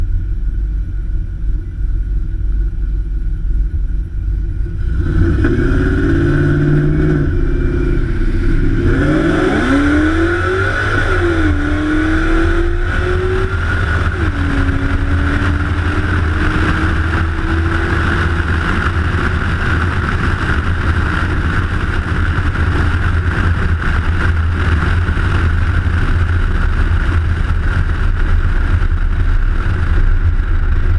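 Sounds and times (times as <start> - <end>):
engine at full throttle: 0.0 - 30.9
road and wind rumble: 0.0 - 30.9.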